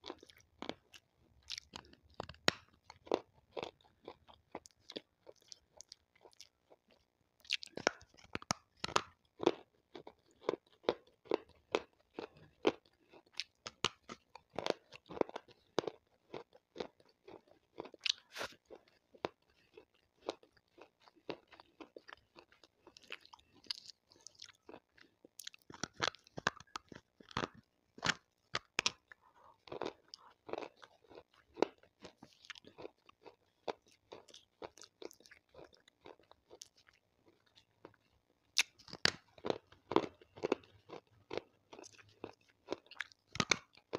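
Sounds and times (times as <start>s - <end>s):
chewing crunchy stone: 0.0s - 43.9s.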